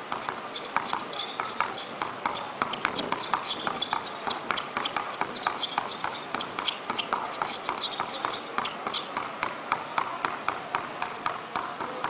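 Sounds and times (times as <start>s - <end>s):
sneaker squeaks: 0.0s - 11.4s.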